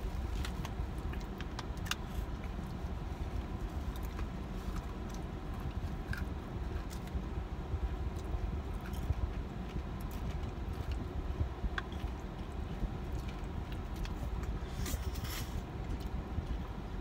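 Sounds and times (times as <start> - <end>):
low rumble inside car: 0.0 - 17.0.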